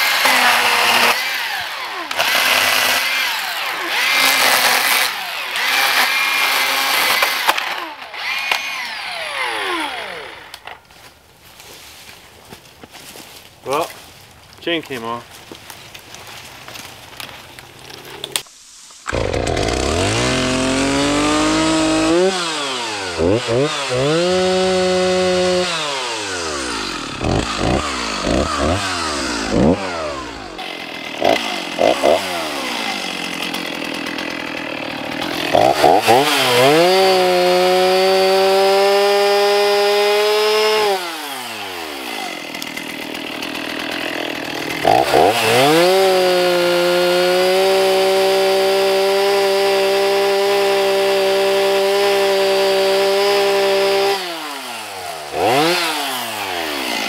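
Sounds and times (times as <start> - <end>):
chainsaw revving and cutting: 0.0 - 10.8, 19.1 - 57.0.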